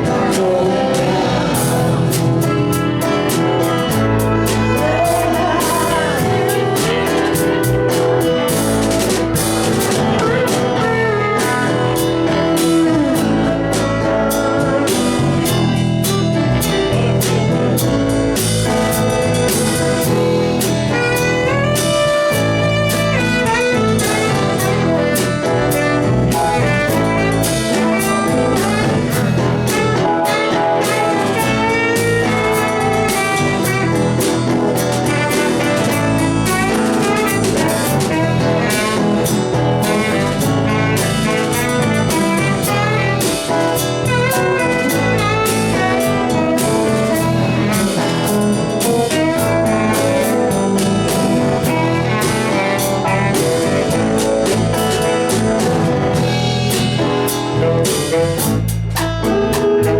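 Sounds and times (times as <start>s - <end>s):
live band playing instrumental: 0.0s - 59.9s.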